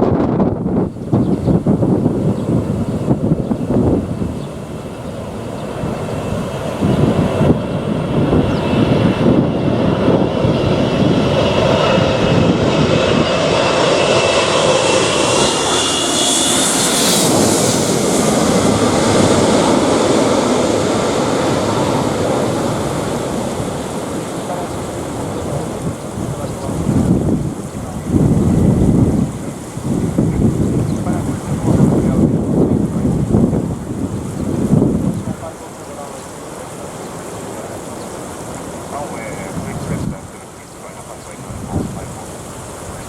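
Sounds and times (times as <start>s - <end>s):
wind buffeting microphone: 0.0s - 36.3s, 38.0s - 43.0s
jet airliner passing overhead: 0.0s - 43.0s.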